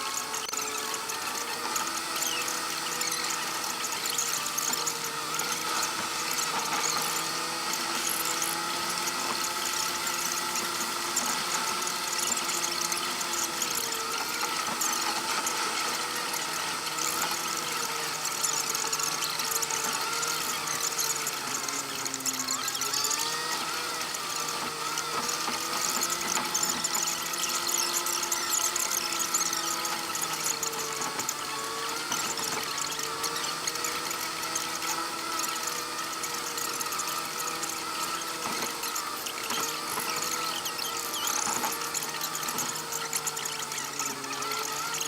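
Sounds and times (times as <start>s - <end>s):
engine squealing whine: 0.0s - 45.0s.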